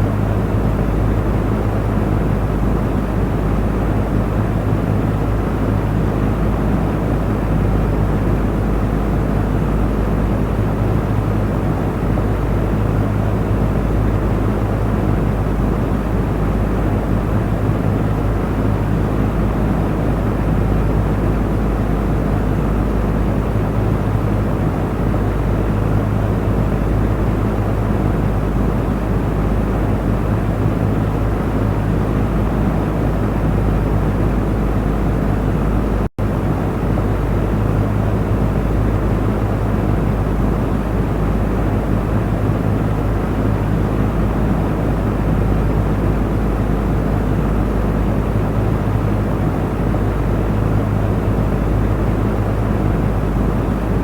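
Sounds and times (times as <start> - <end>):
electric cooling fan running: 0.0 - 54.0.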